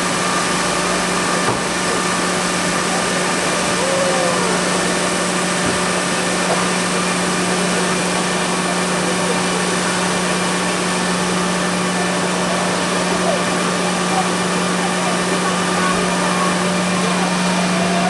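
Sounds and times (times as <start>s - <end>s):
ride machinery drone: 0.0s - 18.0s.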